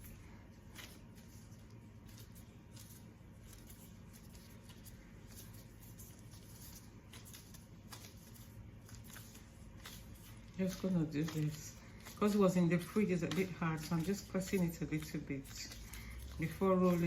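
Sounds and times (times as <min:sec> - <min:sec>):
hands handling pastry dough: 0:00.0 - 0:17.0
low room hum: 0:00.0 - 0:17.0.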